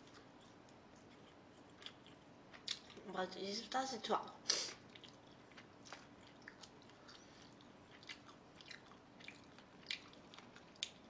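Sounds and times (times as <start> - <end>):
person chewing: 0.0 - 3.0, 4.5 - 11.0.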